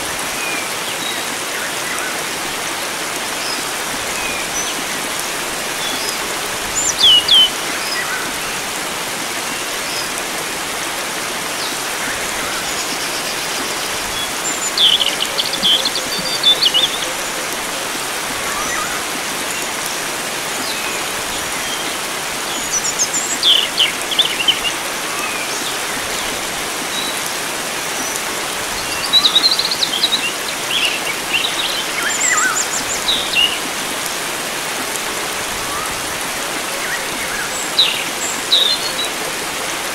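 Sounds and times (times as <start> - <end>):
flowing water: 0.0 - 39.9
songbirds chirping: 0.2 - 39.8.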